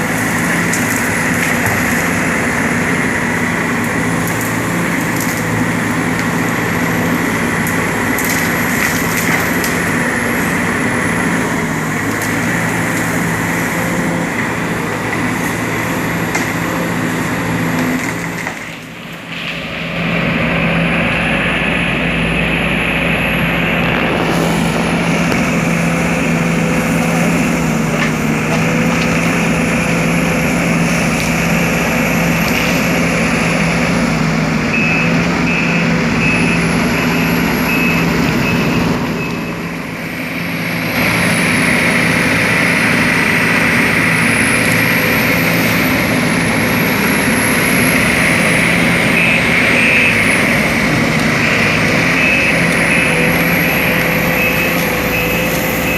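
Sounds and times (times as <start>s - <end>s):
excavator running with whine: 0.0s - 55.9s.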